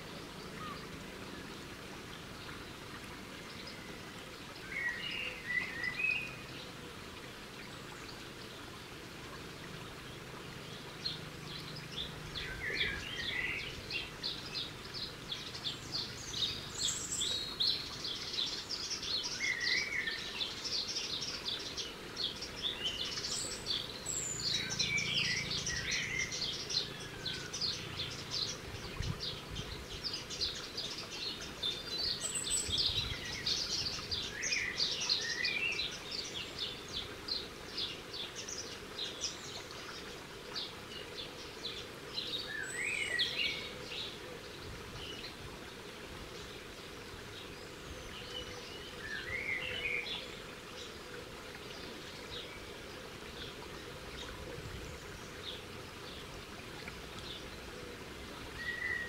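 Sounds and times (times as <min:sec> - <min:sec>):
small birds chirping: 0:09.8 - 0:59.0.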